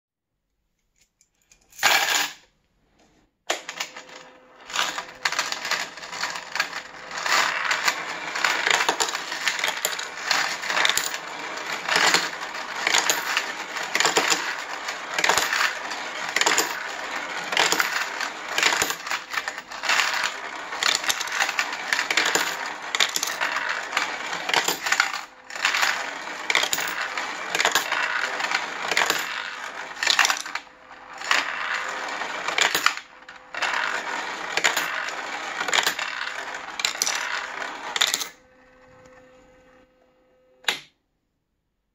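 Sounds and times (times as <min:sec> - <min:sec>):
coins clattering in sorter: 0:01.5 - 0:02.5, 0:03.5 - 0:38.5.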